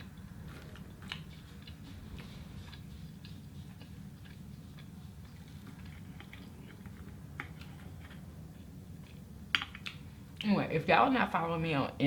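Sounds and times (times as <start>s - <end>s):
person chewing: 0.0s - 10.4s
steady low hum: 0.0s - 12.0s.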